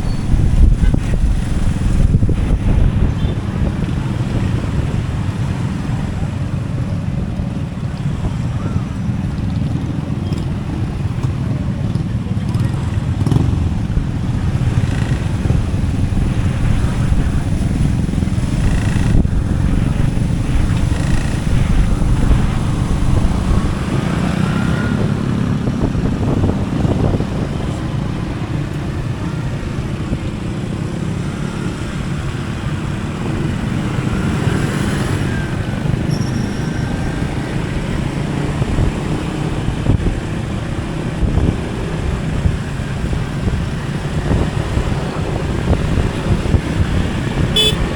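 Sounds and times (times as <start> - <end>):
motorcycle engine rumble: 0.0 - 47.9
road noise: 0.0 - 47.9.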